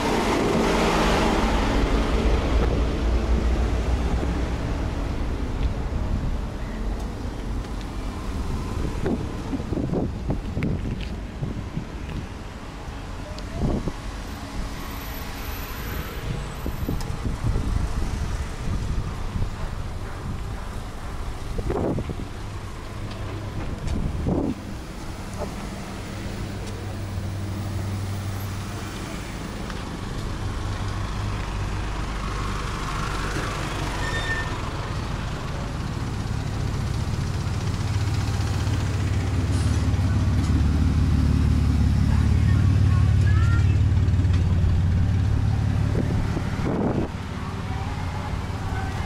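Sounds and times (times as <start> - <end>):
car engines driving slowly past: 0.0 - 49.0.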